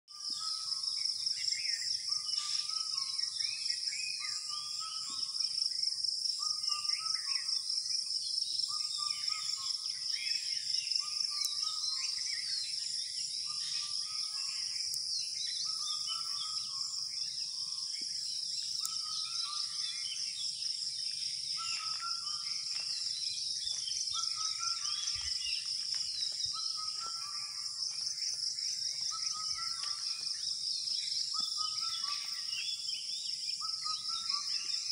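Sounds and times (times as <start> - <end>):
birds calling and chirping: 0.1 - 34.9
high pulsing insect chorus: 0.1 - 34.9.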